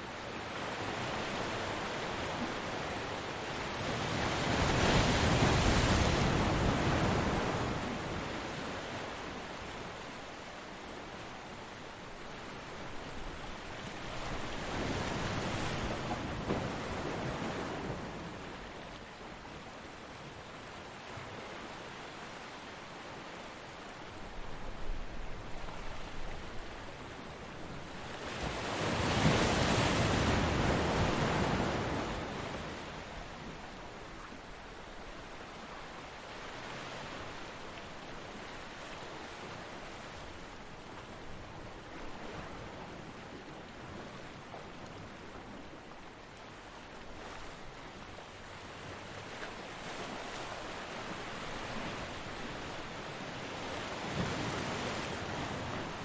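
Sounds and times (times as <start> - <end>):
ocean surf washing on beach: 0.0 - 56.0.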